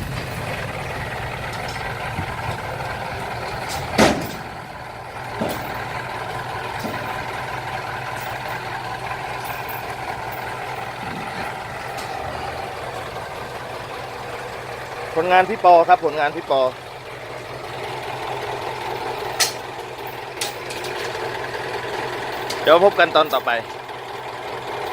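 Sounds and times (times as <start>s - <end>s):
truck engine running: 0.0s - 24.9s.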